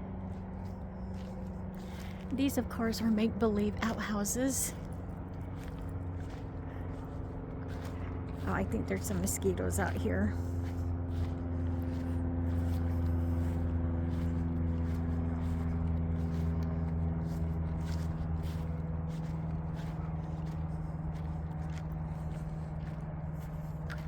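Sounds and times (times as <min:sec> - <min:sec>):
engine low drone: 0:00.0 - 0:24.0
footsteps on a path: 0:00.0 - 0:24.0.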